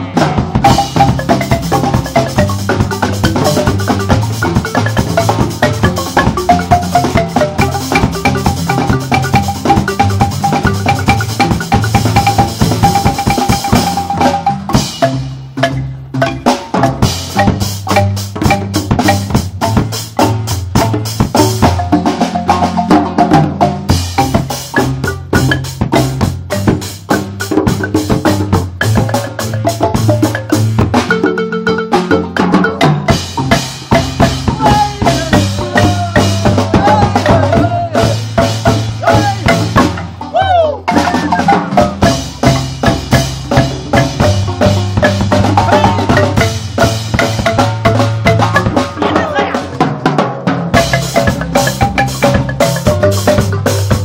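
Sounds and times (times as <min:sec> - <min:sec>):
djembe: 0:00.0 - 0:54.0
drum kit: 0:00.0 - 0:54.0
marimbas playing: 0:00.0 - 0:54.0.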